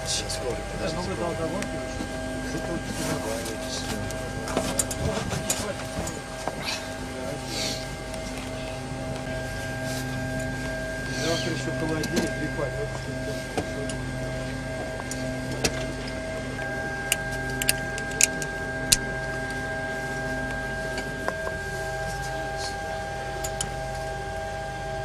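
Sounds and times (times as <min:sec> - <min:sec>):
steady hum of even tones: 0:00.0 - 0:25.0.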